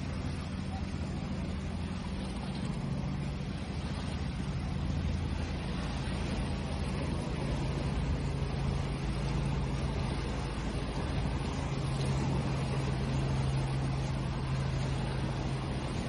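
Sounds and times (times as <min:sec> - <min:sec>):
low steady hum: 0:00.0 - 0:16.0
ocean waves: 0:00.0 - 0:16.0.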